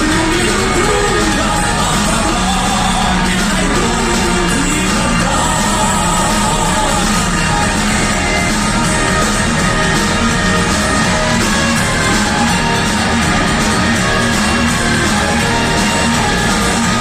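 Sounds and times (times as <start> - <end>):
person singing: 0.0 - 17.0
rock band playing: 0.0 - 17.0.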